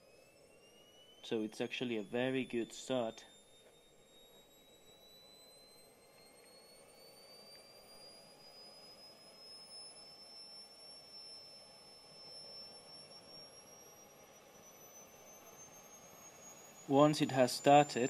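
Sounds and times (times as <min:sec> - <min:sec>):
jet turbine whine spooling up: 0:00.0 - 0:18.0.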